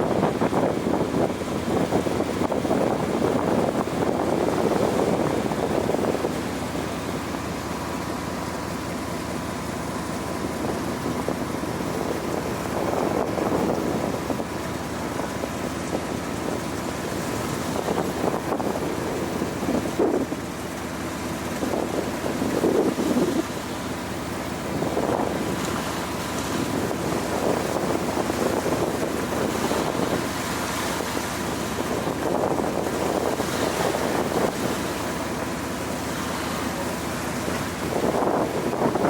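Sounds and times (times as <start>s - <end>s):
ferry engine and water drone: 0.0s - 39.0s
wind buffeting microphone: 0.0s - 39.0s.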